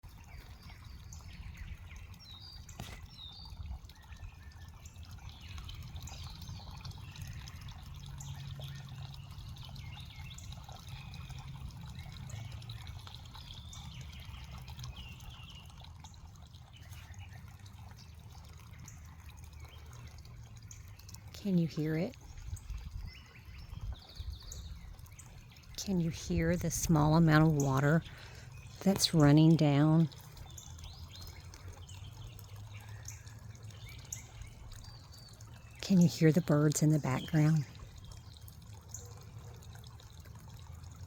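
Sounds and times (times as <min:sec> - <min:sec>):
thin trickle of waterfall: 0:00.0 - 0:41.0.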